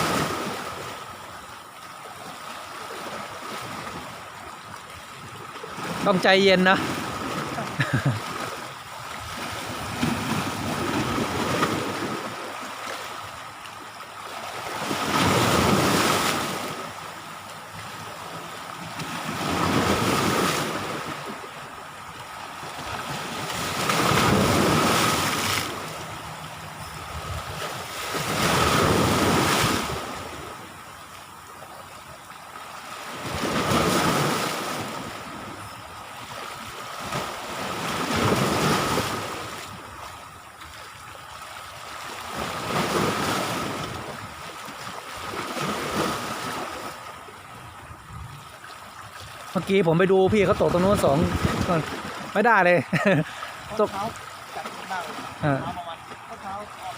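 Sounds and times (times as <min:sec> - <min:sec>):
sea waves washing ashore: 0:00.0 - 0:56.9.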